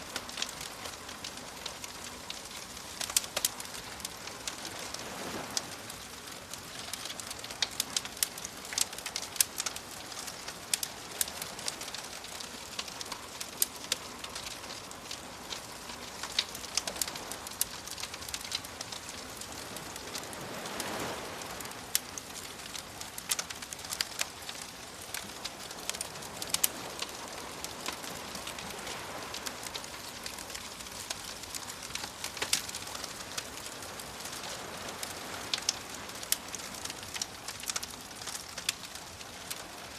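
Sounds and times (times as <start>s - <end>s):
ocean waves: 0.0s - 39.9s
wood fire crackling and popping: 0.0s - 39.9s.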